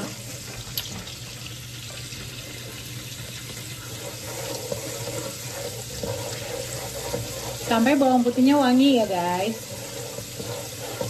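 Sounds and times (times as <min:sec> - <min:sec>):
garlic sizzling in hot oil: 0:00.0 - 0:11.0
wooden spatula stirring in wok: 0:01.9 - 0:11.0.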